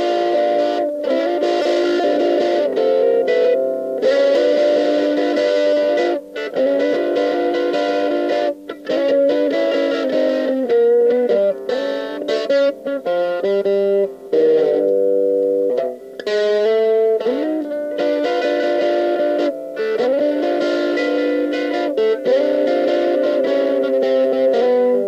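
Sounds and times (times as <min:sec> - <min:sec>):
distorted electric guitar riffs: 0:00.0 - 0:25.0.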